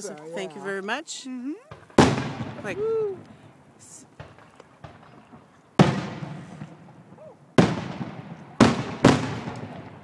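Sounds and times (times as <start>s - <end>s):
firework shells bursting: 1.7s - 10.0s.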